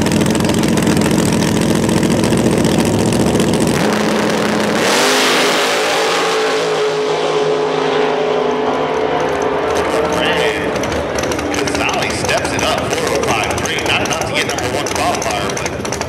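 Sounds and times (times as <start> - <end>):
racing engines idling and revving: 0.0 - 16.0.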